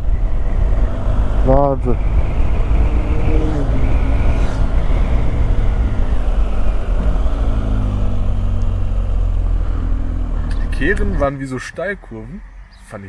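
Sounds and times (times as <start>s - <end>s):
motorcycle engine running: 0.0s - 11.1s
wind rumble on microphone: 0.0s - 11.1s.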